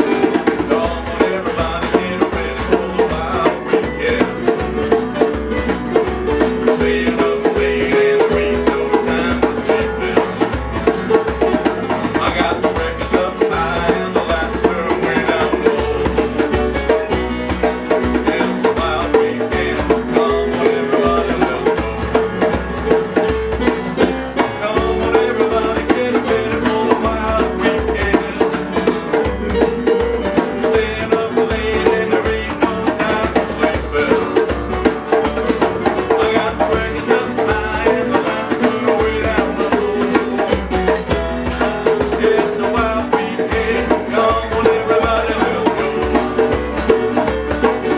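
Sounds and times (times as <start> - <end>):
acoustic rock and roll band: 0.0 - 47.9.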